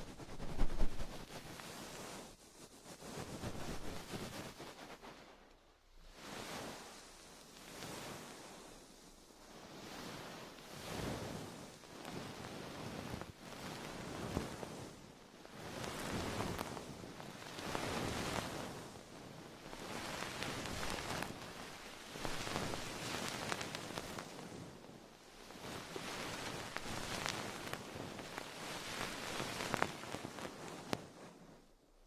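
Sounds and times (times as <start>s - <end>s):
close rustling with crackles: 0.0s - 32.0s.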